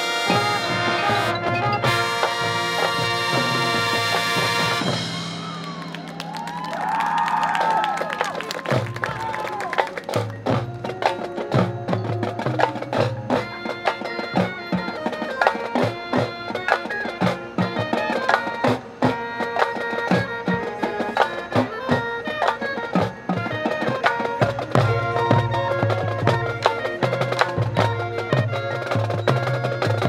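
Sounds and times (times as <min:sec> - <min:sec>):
horns and saxophones chords: 0:00.0 - 0:30.0
marching band drum strokes: 0:00.0 - 0:30.0.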